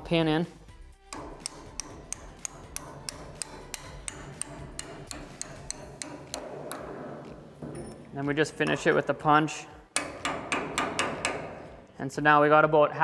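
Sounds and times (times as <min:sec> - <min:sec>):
hammer striking steel pin: 0:01.1 - 0:12.0.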